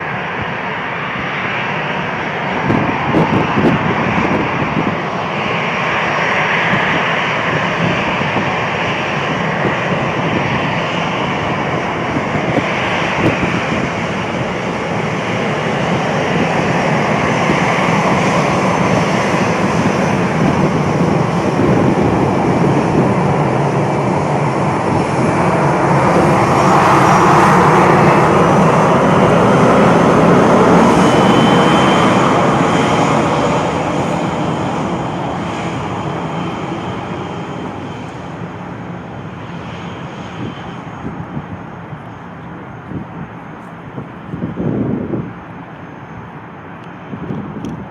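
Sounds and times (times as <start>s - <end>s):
jet engines rushing: 0.0s - 47.9s.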